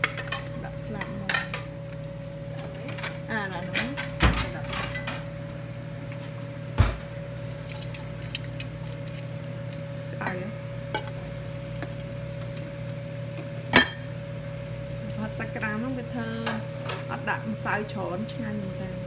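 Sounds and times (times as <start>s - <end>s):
food frying in oil: 0.0s - 19.0s
low steady hum: 0.0s - 19.0s.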